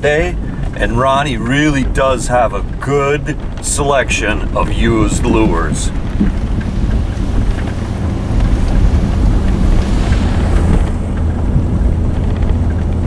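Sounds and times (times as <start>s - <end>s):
vehicle engine running: 0.0s - 13.0s
wind buffeting microphone: 0.0s - 13.0s.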